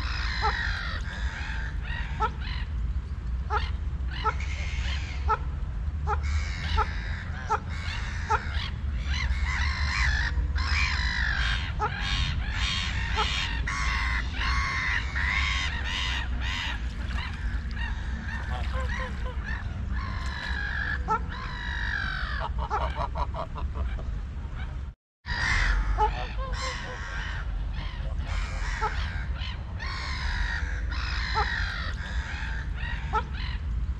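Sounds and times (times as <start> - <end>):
waterfowl calling: 0.0 - 2.8, 3.5 - 24.7, 25.3 - 33.7
steady low rumble: 0.0 - 33.9.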